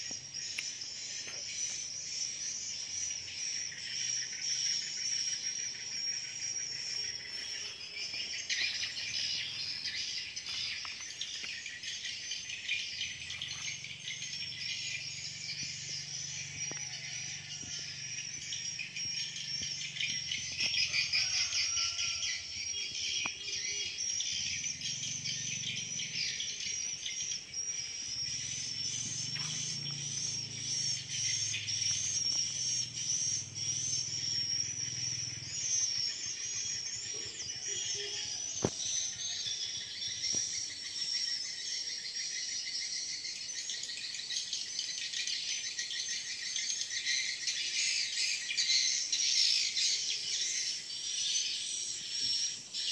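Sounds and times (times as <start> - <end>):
birds chirping: 0.0 - 42.4
high-pitched insect chorus: 0.0 - 52.9.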